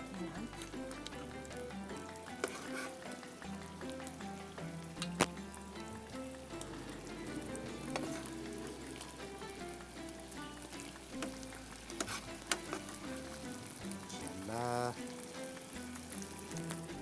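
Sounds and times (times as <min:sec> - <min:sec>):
light background music: 0:00.0 - 0:17.0
sizzling hiss from pot: 0:00.0 - 0:17.0.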